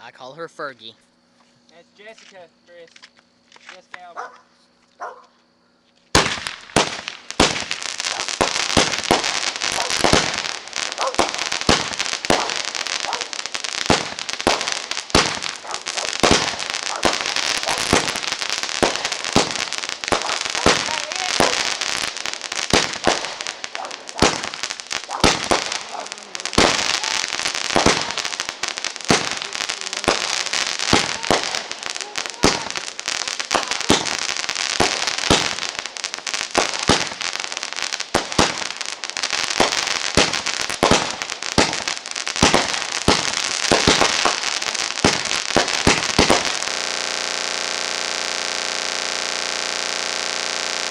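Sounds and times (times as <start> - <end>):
steady hiss: 0.0 - 4.8, 5.5 - 50.9
fireworks crackle: 1.7 - 4.2, 6.1 - 50.9
fireworks bursting: 6.1 - 50.9.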